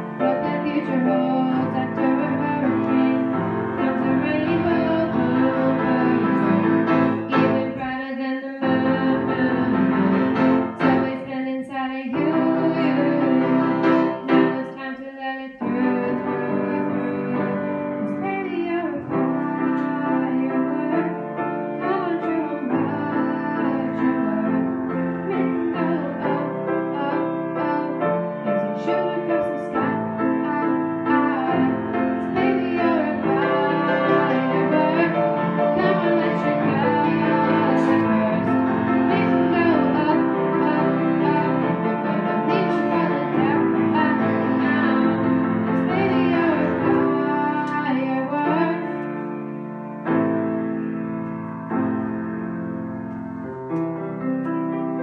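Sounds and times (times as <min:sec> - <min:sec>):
girl singing: 0:00.0 - 0:49.0
piano chords: 0:00.0 - 0:55.0.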